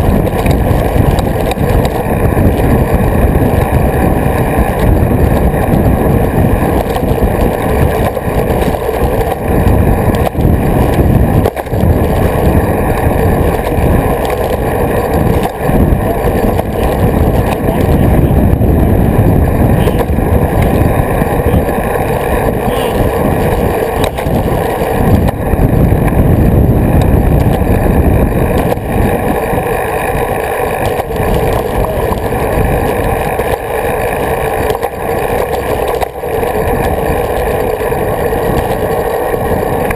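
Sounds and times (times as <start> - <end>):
road rumble: 0.0 - 39.9
steady hum: 0.0 - 39.9
wind rush: 0.0 - 39.9.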